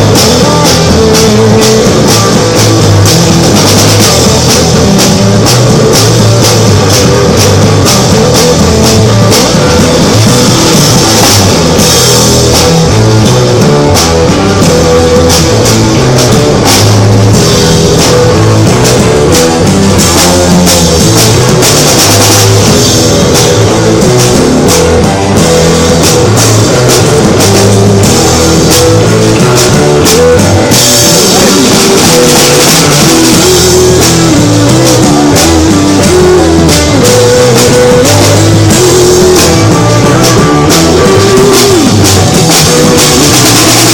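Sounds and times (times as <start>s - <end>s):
loud rock music: 0.0s - 43.9s.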